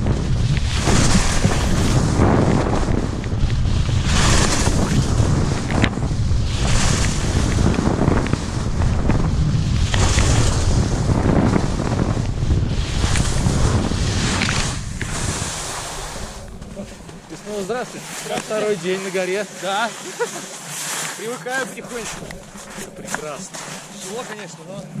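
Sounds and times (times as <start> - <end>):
wind buffeting microphone: 0.0 - 19.6, 21.5 - 24.0
skis scraping on snow: 0.0 - 25.0.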